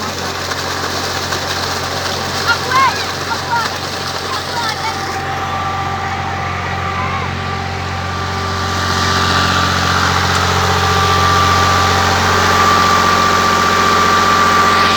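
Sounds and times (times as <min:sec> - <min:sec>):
thin steady whine: 0:00.0 - 0:14.9
tractor diesel engine running: 0:00.0 - 0:14.9.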